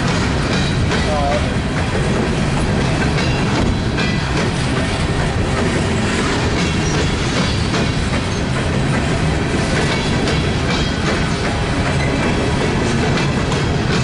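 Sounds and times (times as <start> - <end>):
clatter over rail joints: 0.0 - 14.0
train wheels rumbling on rails: 0.0 - 14.0.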